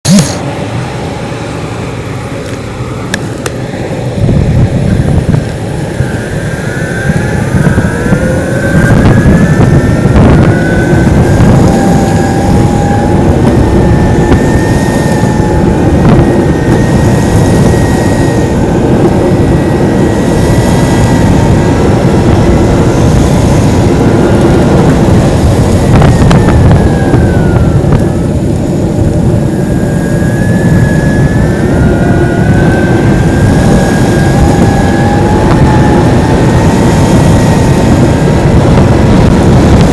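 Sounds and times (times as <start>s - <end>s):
electric motor whine: 0.0s - 39.9s
wind buffeting microphone: 0.5s - 39.9s.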